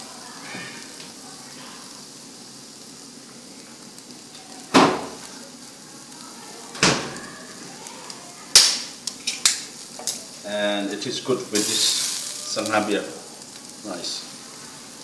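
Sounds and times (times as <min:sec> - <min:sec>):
ribs sizzling on a grill: 0:00.0 - 0:15.0.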